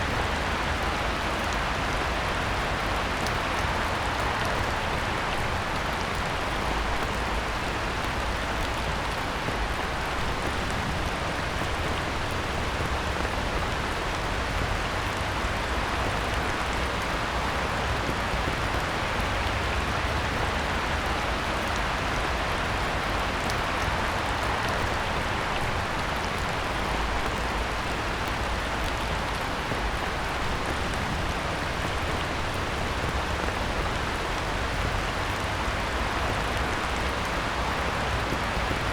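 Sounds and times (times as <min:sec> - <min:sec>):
heavy rain on pond: 0:00.0 - 0:38.9.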